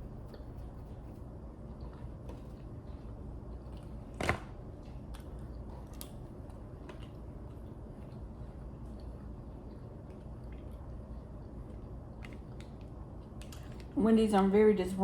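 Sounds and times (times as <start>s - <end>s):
quiet chewing with mouth clicks: 0.0s - 4.0s, 4.8s - 14.0s.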